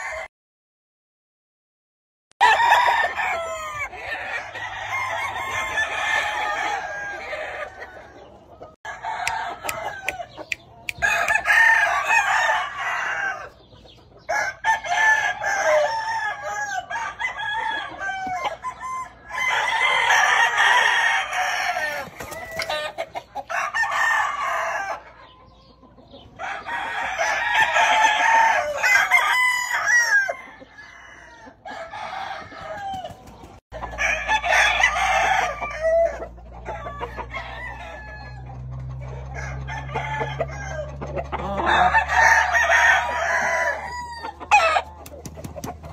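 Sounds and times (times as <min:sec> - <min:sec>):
roosters crowing: 0:00.0 - 0:00.3, 0:02.4 - 0:45.9.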